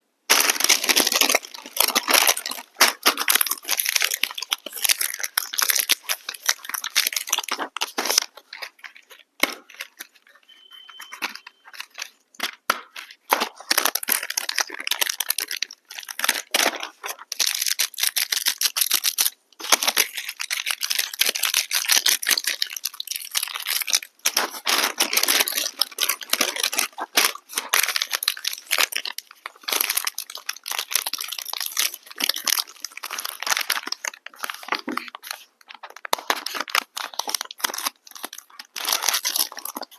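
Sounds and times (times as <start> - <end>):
plastic wrappers crinkling and tearing: 0.3 - 39.9.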